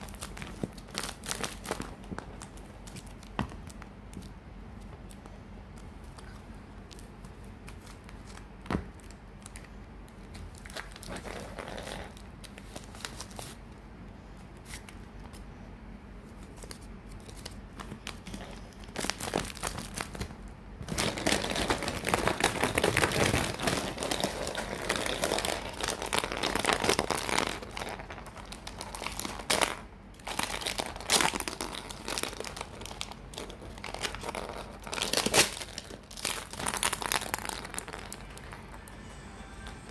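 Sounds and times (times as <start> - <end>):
plastic packaging crinkling: 0.0 - 4.3, 5.8 - 13.6, 16.4 - 39.0.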